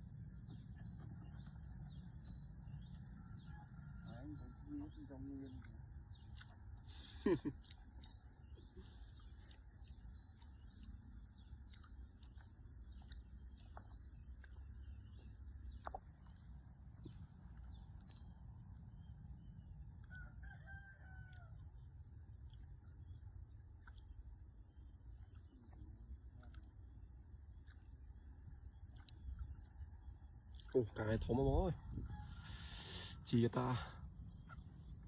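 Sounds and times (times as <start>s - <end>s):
birds chirping: 0.0s - 35.0s
low steady rumble: 0.0s - 35.0s.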